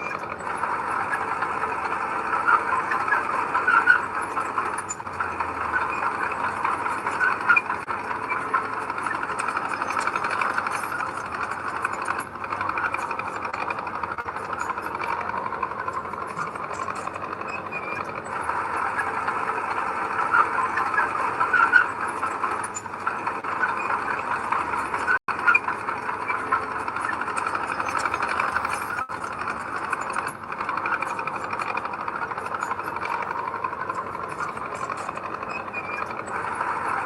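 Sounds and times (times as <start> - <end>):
heavy diesel machinery running: 0.0 - 37.0.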